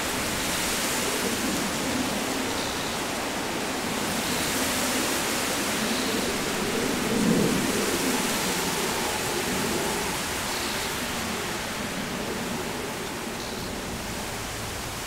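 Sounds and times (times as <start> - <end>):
wind rustling reeds: 0.0 - 15.0.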